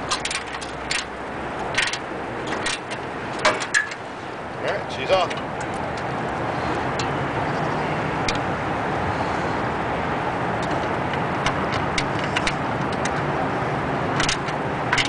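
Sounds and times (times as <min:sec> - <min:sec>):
steady background rumble: 0:00.0 - 0:15.0.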